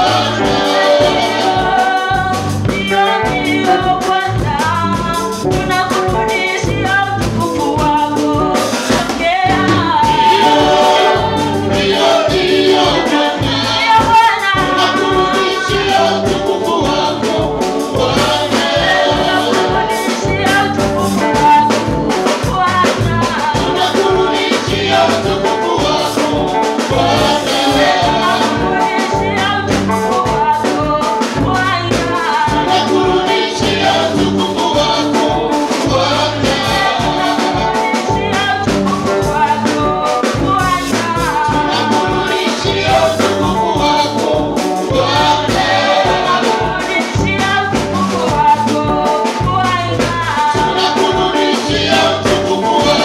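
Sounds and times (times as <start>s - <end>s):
backing singers: 0.0s - 53.0s
instrumental backing with beat: 0.0s - 53.0s
woman singing lead: 0.0s - 53.0s.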